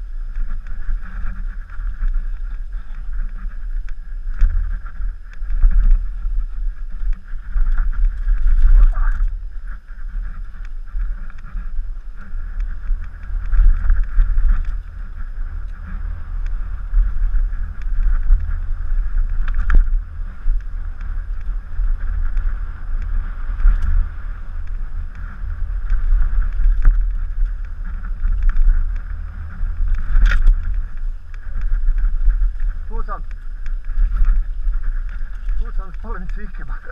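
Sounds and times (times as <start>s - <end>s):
bike rattling on dirt trail: 0.0s - 36.9s
wind rumble on microphone: 0.0s - 36.9s.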